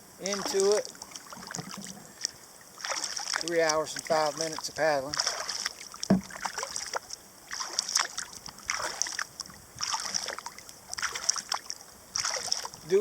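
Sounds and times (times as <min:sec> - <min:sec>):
kayak paddle splashing: 0:00.1 - 0:13.0.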